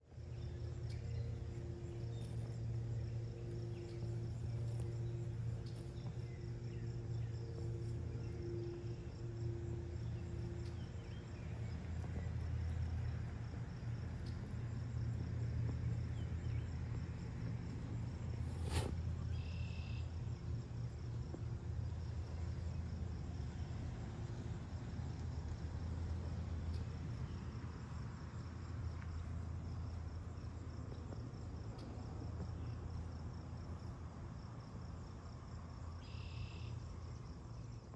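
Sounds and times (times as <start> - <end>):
low steady rumble: 0.0 - 37.9
insects chirping: 0.1 - 37.9.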